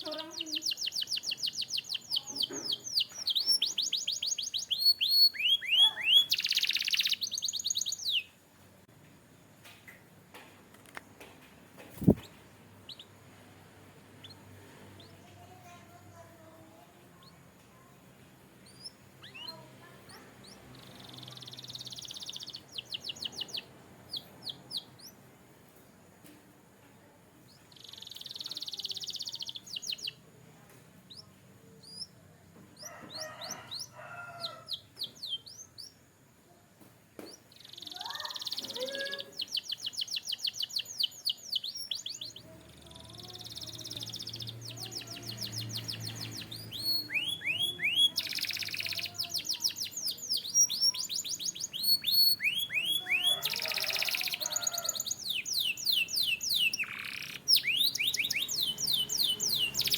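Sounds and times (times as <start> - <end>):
canary singing: 0.0 - 8.4, 11.9 - 13.2, 14.1 - 17.6, 18.5 - 25.2, 27.5 - 30.3, 31.1 - 32.2, 32.8 - 36.2, 37.2 - 59.9.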